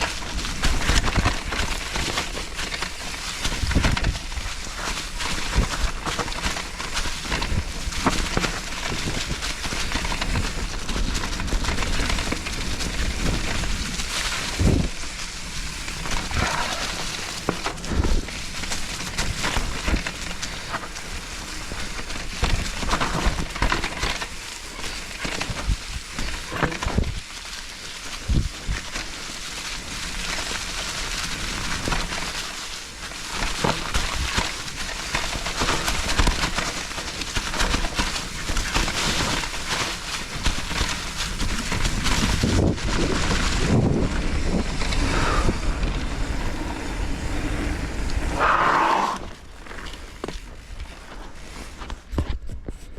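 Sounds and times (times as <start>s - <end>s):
wind noise on microphone: 0.0s - 27.4s, 28.0s - 29.1s, 29.7s - 52.9s
bike knocking and rattling: 0.0s - 48.4s, 49.3s - 52.9s
bike tyres on dirt trail: 0.0s - 52.9s.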